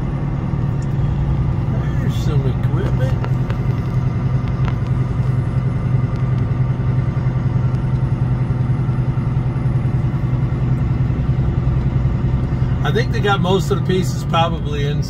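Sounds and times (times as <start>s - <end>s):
diesel truck engine droning: 0.0s - 15.0s.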